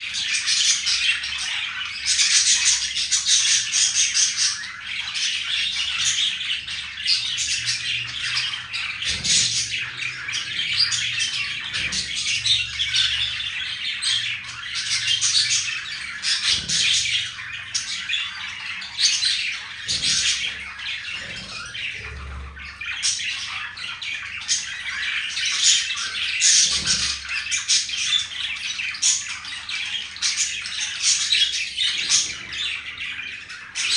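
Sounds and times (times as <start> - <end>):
budgerigars chattering and squawking: 0.0 - 33.9.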